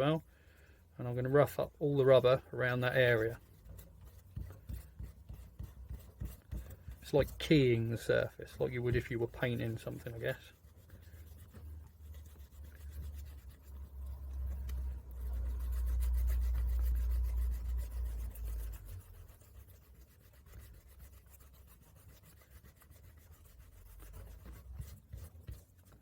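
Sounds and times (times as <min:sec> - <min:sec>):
sandpaper scratching on rubber: 0:01.4 - 0:26.0.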